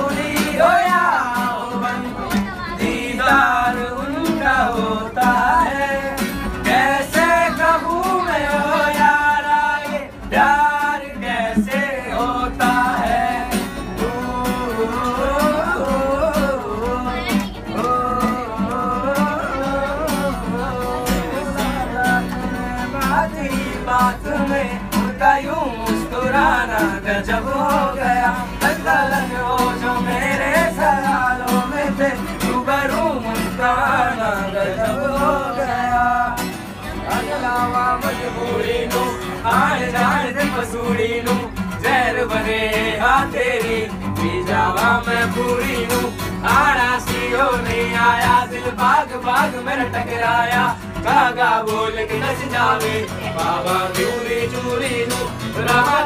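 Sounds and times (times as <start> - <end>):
men singing together: 0.0 - 56.0
strummed acoustic guitar: 0.0 - 56.0.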